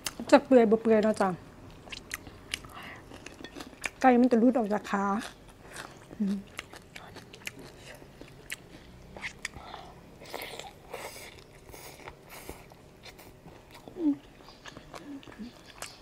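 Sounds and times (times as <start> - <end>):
person chewing: 1.7 - 4.0, 5.1 - 16.0.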